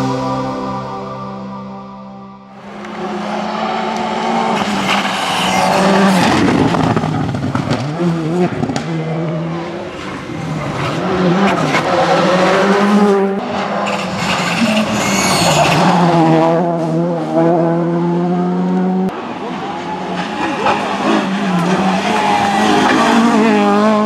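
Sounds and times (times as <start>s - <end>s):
rally car engines at full throttle: 2.5s - 24.0s.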